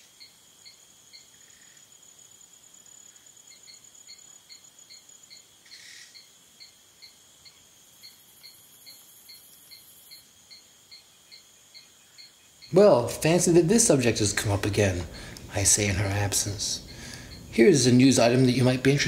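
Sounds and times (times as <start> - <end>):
crickets chirping: 0.0 - 19.0
high insect trill: 0.0 - 19.0
soft hiss: 0.0 - 19.0.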